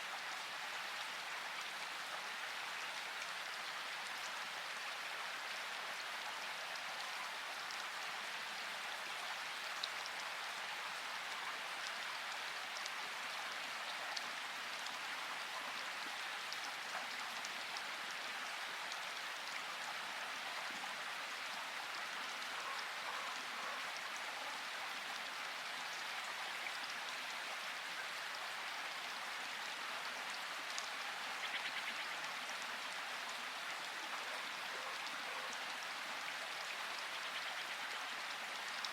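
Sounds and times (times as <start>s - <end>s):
steady rain in a forest: 0.0s - 38.9s.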